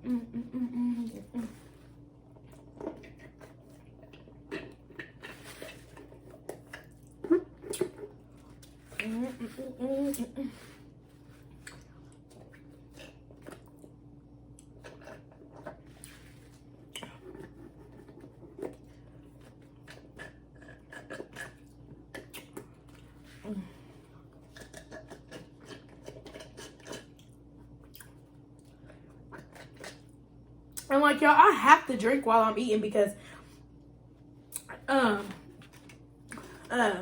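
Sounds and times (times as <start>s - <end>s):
person chewing food: 0.0s - 9.5s, 11.0s - 30.9s, 34.5s - 36.7s
faint steady hum: 0.0s - 37.0s.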